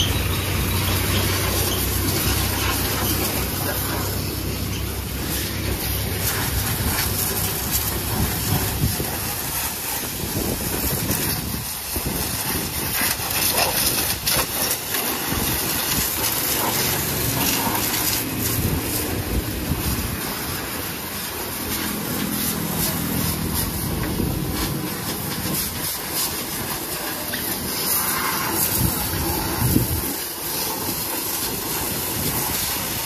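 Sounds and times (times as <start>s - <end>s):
pressure washer spray hissing: 0.0s - 33.0s.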